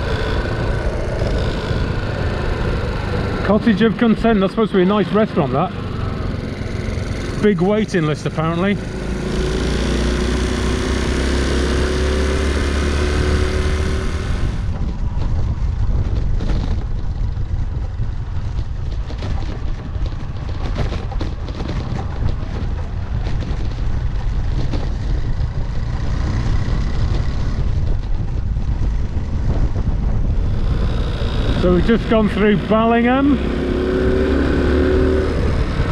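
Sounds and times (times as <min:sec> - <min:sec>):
small motorcycle engine running: 0:00.0 - 0:35.9
wind buffeting microphone: 0:00.0 - 0:35.9.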